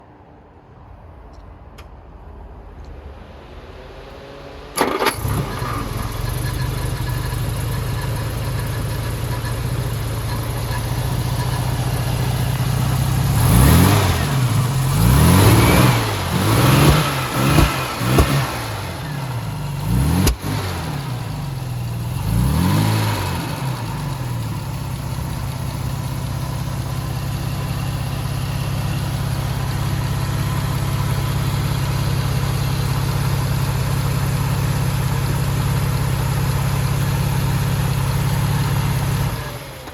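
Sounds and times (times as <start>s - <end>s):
car engine starting: 1.4s - 39.9s
car engine idling: 2.3s - 39.9s
car engine revving: 2.8s - 39.9s.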